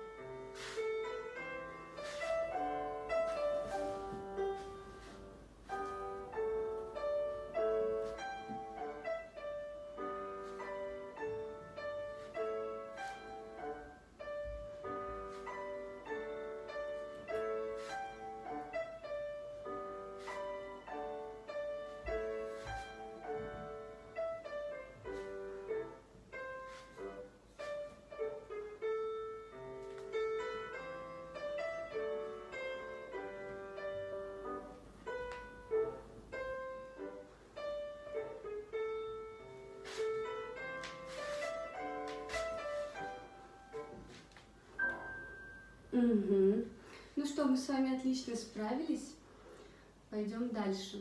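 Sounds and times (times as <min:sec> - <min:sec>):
classical piano music: 0:00.0 - 0:49.1.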